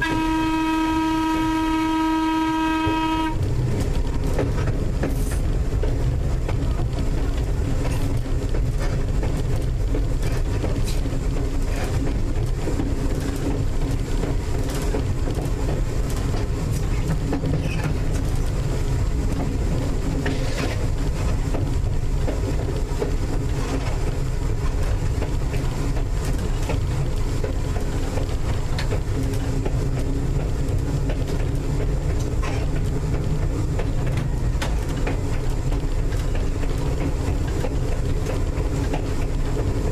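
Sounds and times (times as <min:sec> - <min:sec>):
electric railcar rumbling: 0:00.0 - 0:39.9
wheels clicking on rails: 0:03.3 - 0:39.9.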